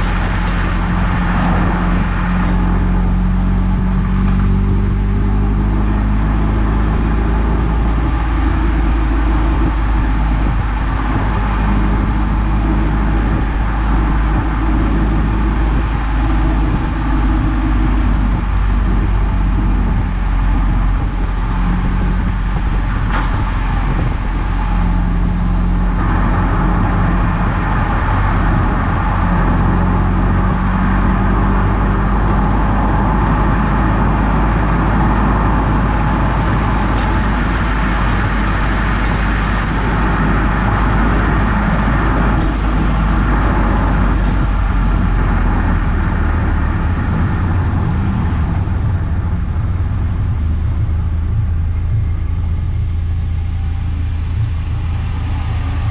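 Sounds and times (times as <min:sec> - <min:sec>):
deep engine drone: 0:00.0 - 0:55.9
road and tyre noise: 0:00.0 - 0:55.9.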